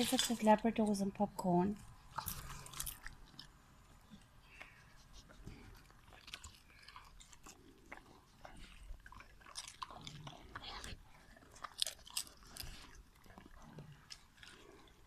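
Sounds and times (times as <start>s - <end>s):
dogs crunching popcorn: 0.0s - 1.0s, 1.8s - 15.0s.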